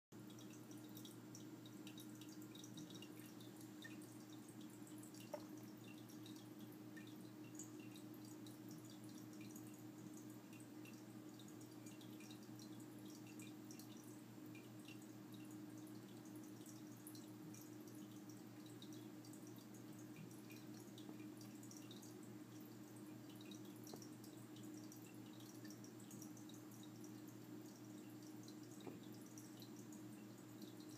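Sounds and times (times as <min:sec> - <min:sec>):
aquarium filter hum: 0:00.2 - 0:30.9
water dripping and trickling: 0:00.2 - 0:30.9.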